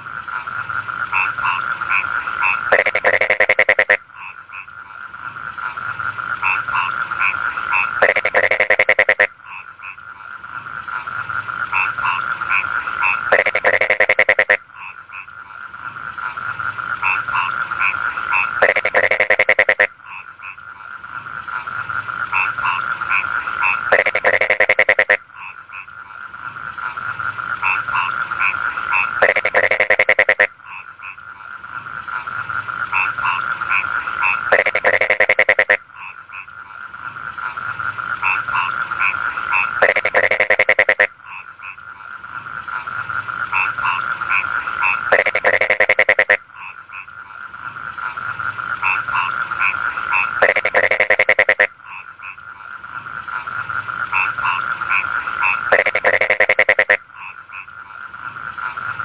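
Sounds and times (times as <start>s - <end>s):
frog chorus: 0.0s - 59.0s
loud rapid pulsing croak: 0.0s - 59.0s
short repeated frog calls: 0.0s - 59.0s.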